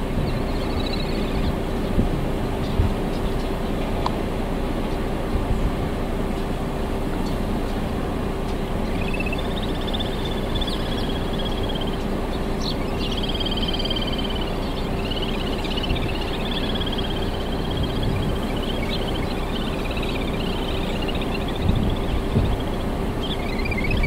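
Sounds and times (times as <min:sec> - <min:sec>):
birds trilling: 0:00.0 - 0:24.0
low background rumble: 0:00.0 - 0:24.0.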